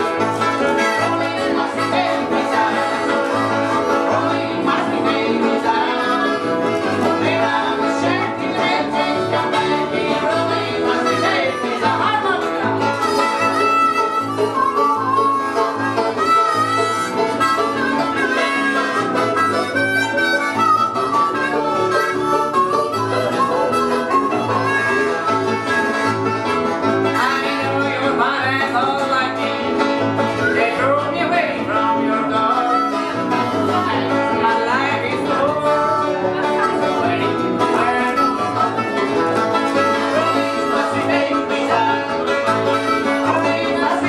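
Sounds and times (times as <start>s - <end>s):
banjo picking: 0.0s - 44.0s
harmonica with bent notes: 0.0s - 44.0s
strummed acoustic guitars: 0.0s - 44.0s.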